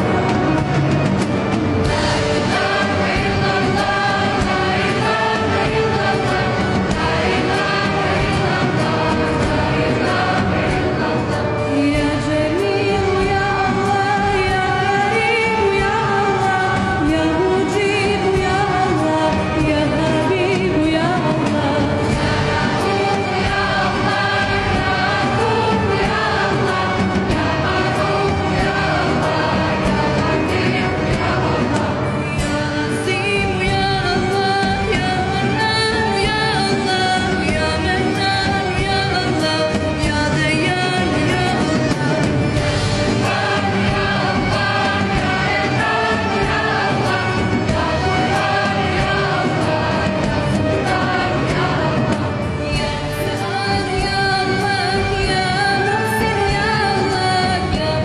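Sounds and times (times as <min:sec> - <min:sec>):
choir-like singing: 0:00.0 - 0:58.0.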